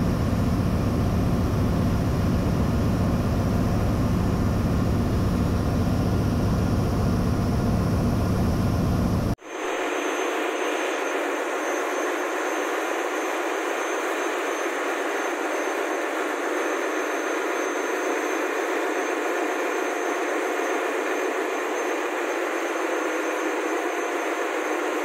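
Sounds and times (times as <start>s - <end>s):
engine room machinery noise: 0.0s - 25.0s.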